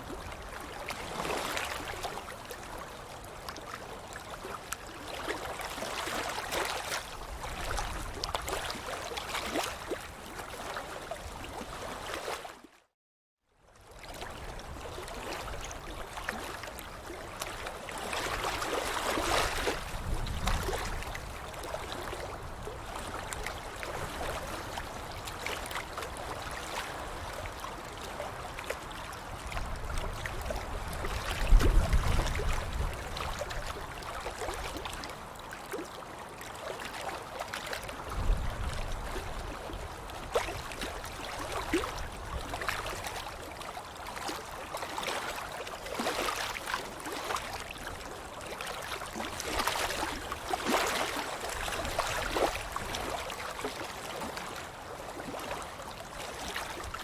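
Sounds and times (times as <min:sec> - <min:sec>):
water splashing and sloshing: 0:00.0 - 0:13.0, 0:13.8 - 0:57.0.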